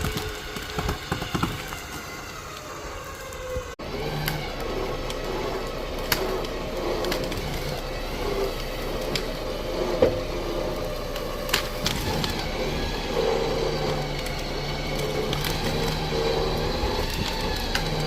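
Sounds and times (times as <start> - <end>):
machine engine running: 0.0 - 18.0
wood cracking and splintering: 0.0 - 18.0.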